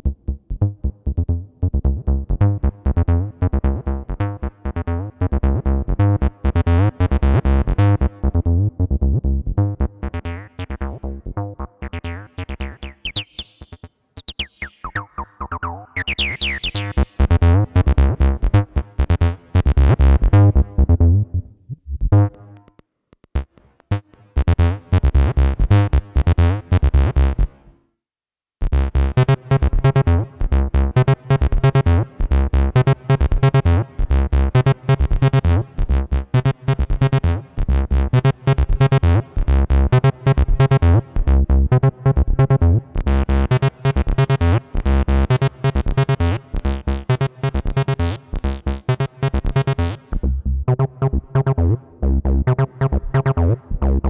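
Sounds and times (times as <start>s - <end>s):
synthesizer acid bassline: 1.9s - 22.6s, 28.7s - 54.0s.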